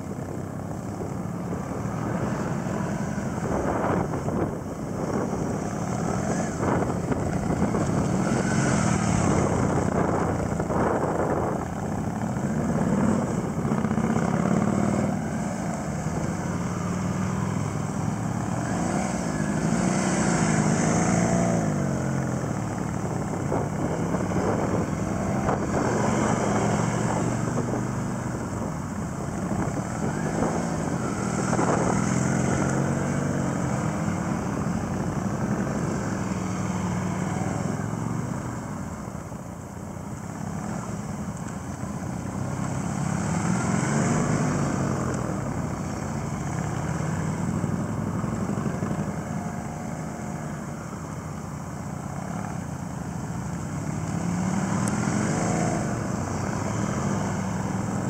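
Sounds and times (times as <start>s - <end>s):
motorcycle engines at low speed: 0.0s - 58.0s.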